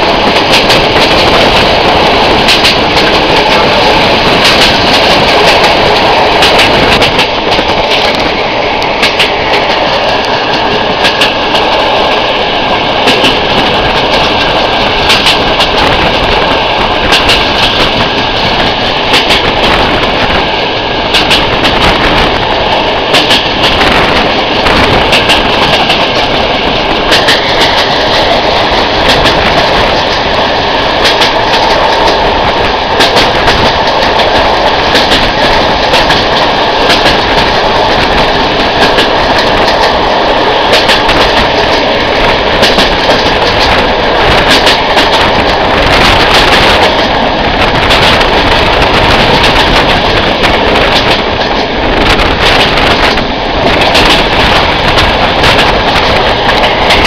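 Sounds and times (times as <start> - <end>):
train rumbling: 0.0 - 57.0
wheels clicking over rail joints: 0.0 - 57.0.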